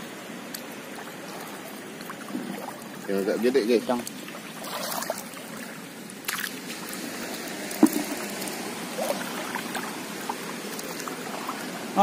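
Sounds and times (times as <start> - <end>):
shallow water sloshing and trickling: 0.0 - 12.0
small water splashes: 0.2 - 12.0.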